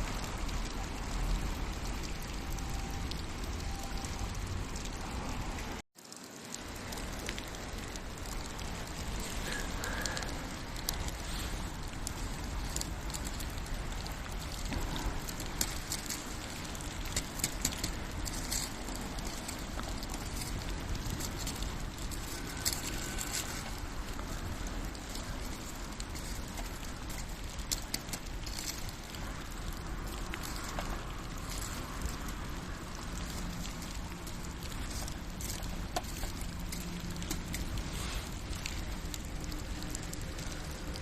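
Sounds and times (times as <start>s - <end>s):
campfire crackling and popping: 0.0s - 41.0s
rain hissing: 0.0s - 41.0s.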